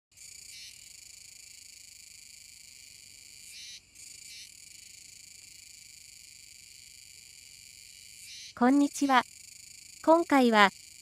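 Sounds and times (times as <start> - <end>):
cicadas buzzing: 0.2 - 11.0.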